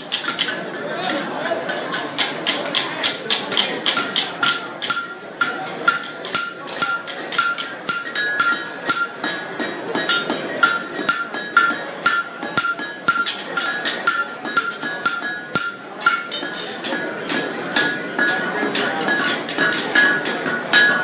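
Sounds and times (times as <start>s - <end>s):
hammer ringing on anvil: 0.0s - 21.0s.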